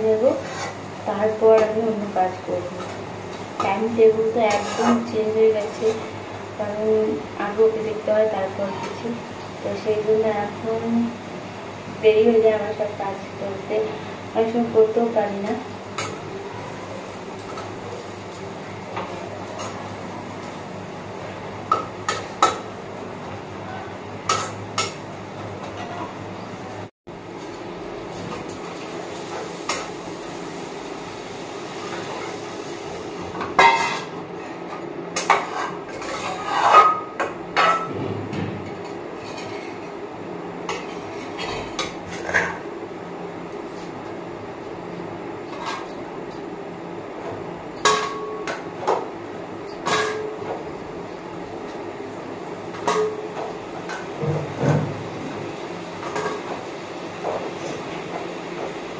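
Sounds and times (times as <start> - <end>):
steady background hum: 0.0 - 58.9.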